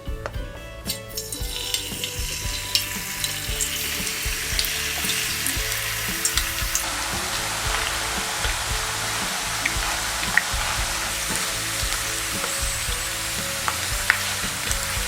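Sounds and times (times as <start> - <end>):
vegetables deep-frying in oil: 2.8 - 15.0.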